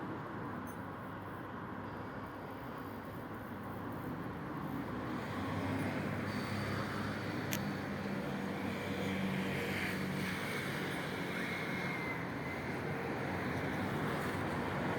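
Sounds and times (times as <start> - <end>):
street traffic: 0.0 - 14.9.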